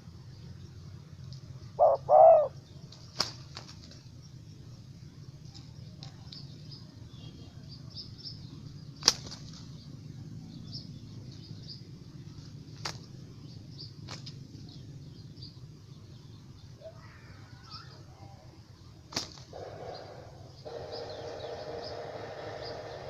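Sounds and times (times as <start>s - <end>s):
low steady hum: 0.0s - 23.0s
small birds chirping: 0.0s - 23.0s.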